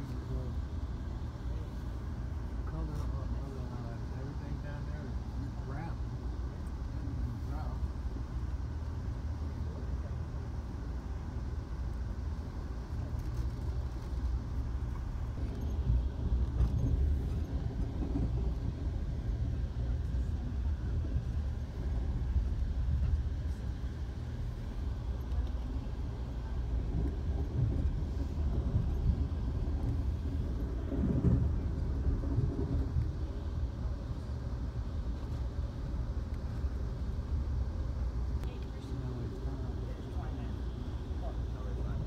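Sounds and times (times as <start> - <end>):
train rumbling at speed: 0.0 - 42.0.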